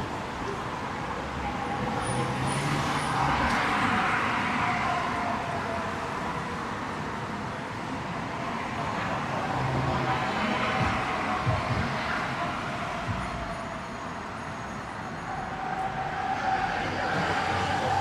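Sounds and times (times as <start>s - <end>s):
passing cars: 0.0s - 18.0s.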